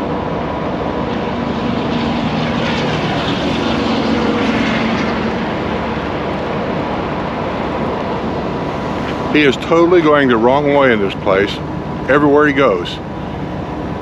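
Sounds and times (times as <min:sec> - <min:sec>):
vehicle engine driving by: 0:00.0 - 0:14.0.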